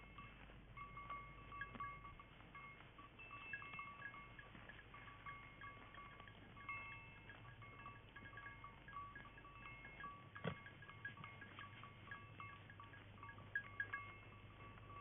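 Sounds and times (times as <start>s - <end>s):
goat bells tinkling: 0.0s - 15.0s.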